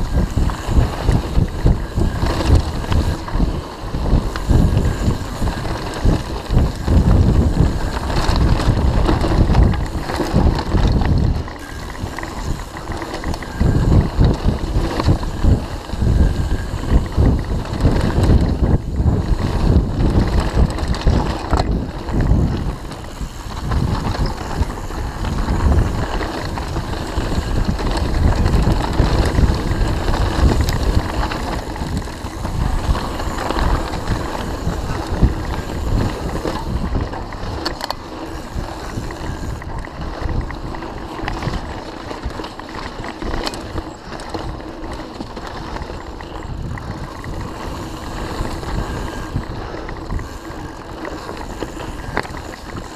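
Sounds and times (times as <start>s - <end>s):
bike rattling over bumps: 0.0s - 52.9s
tyres rolling over dirt: 0.0s - 52.9s
wind rumbling on microphone: 0.0s - 52.9s.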